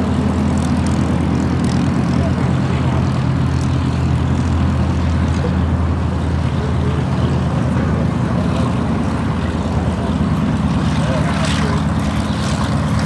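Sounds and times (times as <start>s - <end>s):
piston aircraft engines droning: 0.0s - 13.0s.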